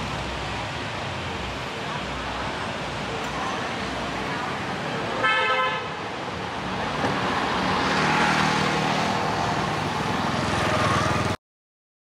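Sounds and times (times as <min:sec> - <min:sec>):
passing vehicles: 0:00.0 - 0:11.4.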